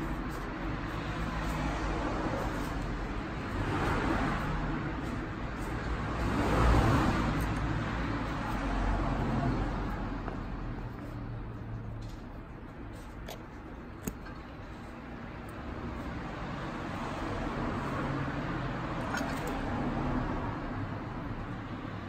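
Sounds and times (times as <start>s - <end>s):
road traffic rushing by: 0.0s - 22.0s.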